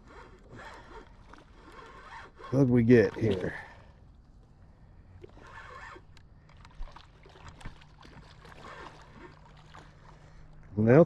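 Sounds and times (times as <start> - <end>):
creek water sloshing: 0.0 - 11.0.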